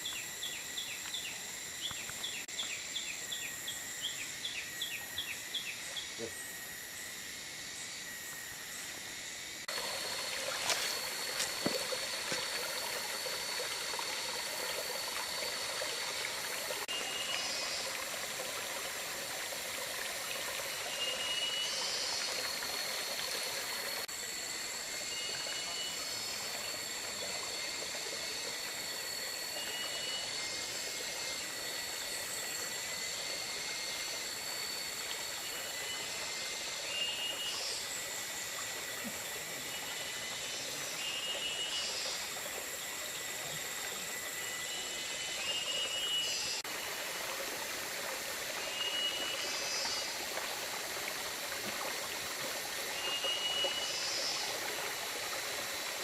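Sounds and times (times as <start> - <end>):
forest stream running: 0.0 - 56.0
insects buzzing: 0.0 - 56.0.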